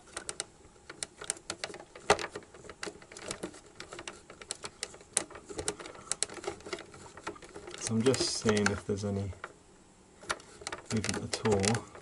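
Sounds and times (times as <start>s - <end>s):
cassette mechanism clicks and rattles: 0.0s - 9.6s, 10.2s - 12.0s.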